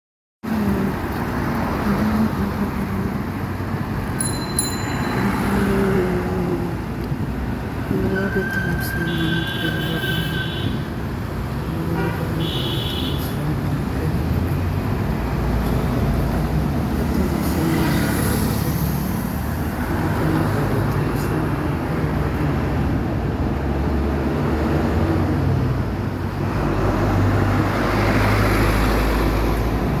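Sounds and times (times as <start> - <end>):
close vehicle rumble: 0.4 - 30.0
vehicles passing: 0.4 - 30.0.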